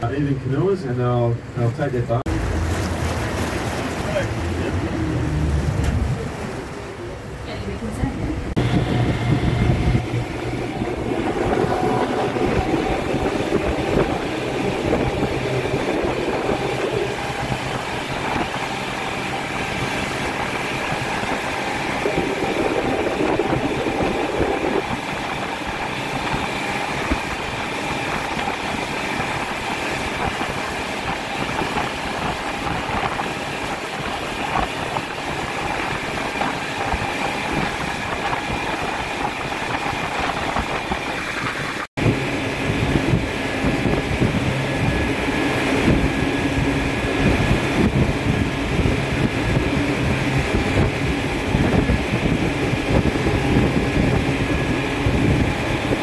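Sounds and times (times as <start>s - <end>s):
boat engine drone with whine: 0.0s - 56.0s
water rushing past hull: 1.4s - 56.0s.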